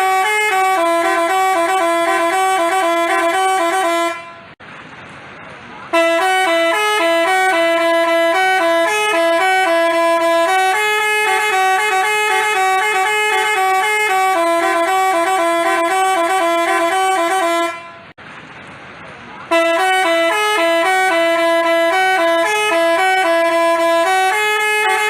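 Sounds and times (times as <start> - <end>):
musical bus horn playing a tune: 0.0 - 4.6, 5.9 - 18.2, 19.5 - 25.0.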